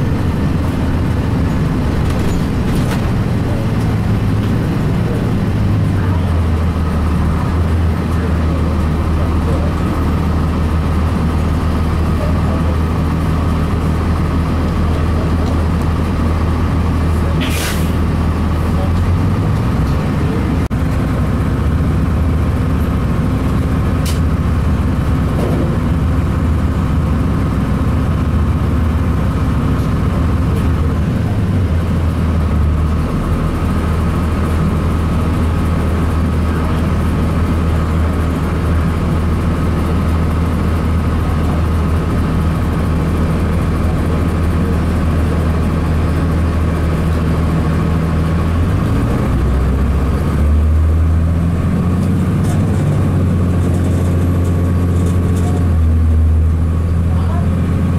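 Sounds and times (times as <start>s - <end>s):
bus diesel engine drone: 0.0s - 57.9s.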